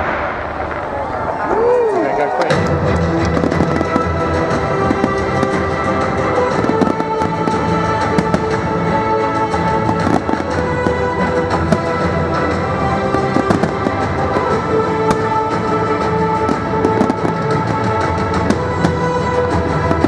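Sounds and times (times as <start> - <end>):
fireworks bangs and crackles: 0.0 - 20.0
music with sustained notes: 2.4 - 20.0.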